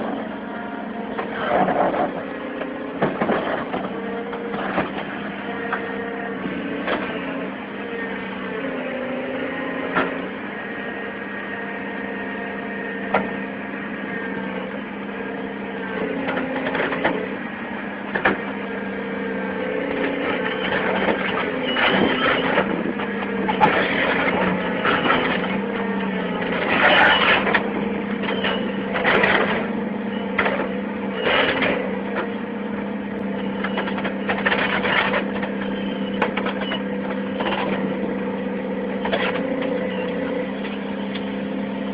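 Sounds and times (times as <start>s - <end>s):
heavy machine engine running: 0.0s - 41.9s.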